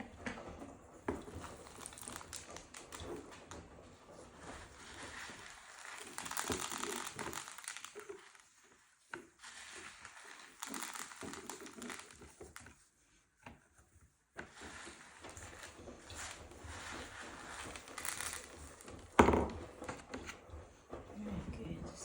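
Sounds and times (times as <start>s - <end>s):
crinkling and crunching by hand: 0.0s - 13.2s, 14.4s - 20.4s.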